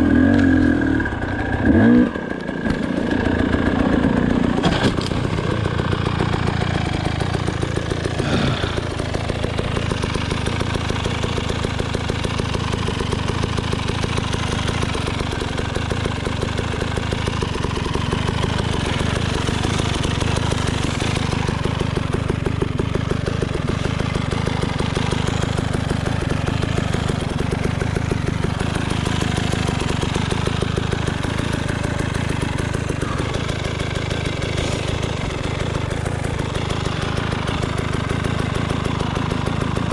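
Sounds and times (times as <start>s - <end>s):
two-stroke engine idling: 0.0s - 39.9s.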